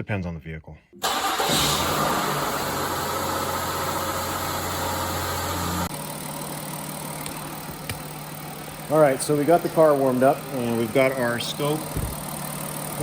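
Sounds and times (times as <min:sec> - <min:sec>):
car engine idling: 0:01.0 - 0:13.0.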